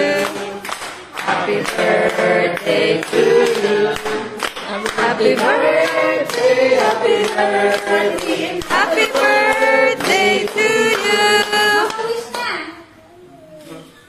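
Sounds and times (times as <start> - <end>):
group of voices singing: 0.0 - 11.9.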